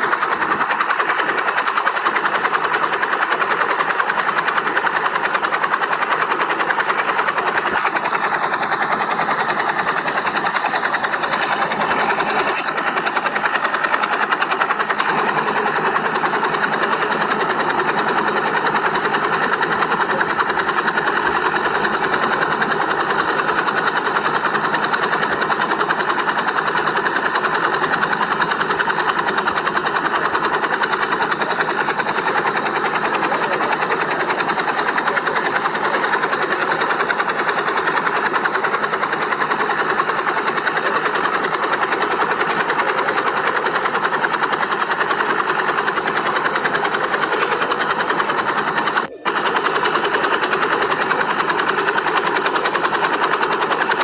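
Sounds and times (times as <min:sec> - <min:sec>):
toy helicopter rotors whirring: 0:00.0 - 0:54.0.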